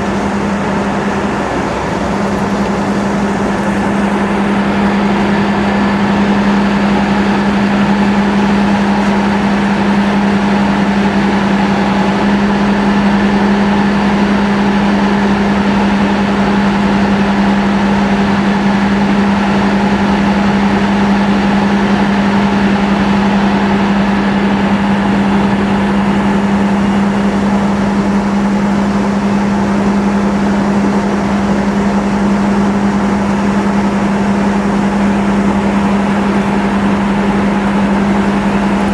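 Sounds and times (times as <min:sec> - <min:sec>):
fire truck engine running: 0:00.0 - 0:38.9.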